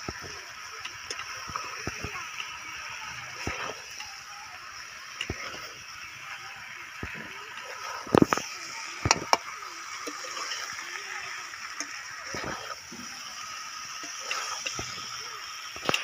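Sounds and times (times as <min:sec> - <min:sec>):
frying hiss: 0:00.0 - 0:16.0.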